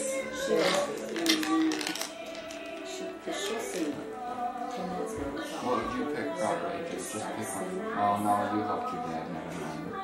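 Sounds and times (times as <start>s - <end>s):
music with singing voice: 0.0s - 10.0s.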